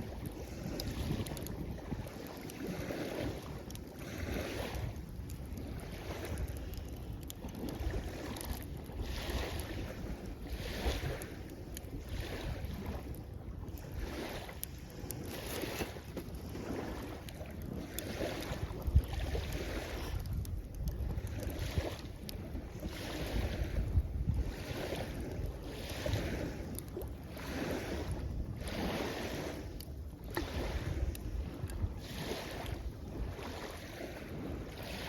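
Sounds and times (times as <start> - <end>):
small waves washing on shore: 0.0 - 35.0
wind on microphone: 0.0 - 35.0.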